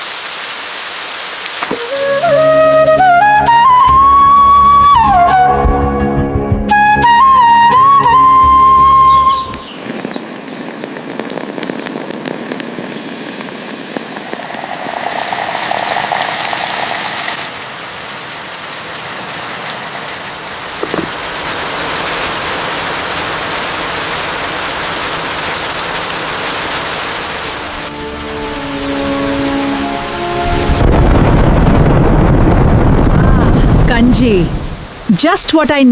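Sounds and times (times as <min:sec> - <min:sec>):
rain hissing: 0:00.0 - 0:05.1, 0:07.2 - 0:35.9.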